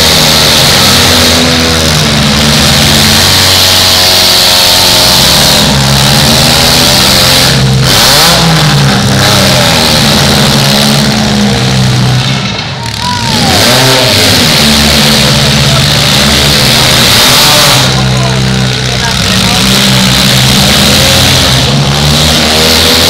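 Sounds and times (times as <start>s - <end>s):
car engines revving hard: 0.0s - 23.0s.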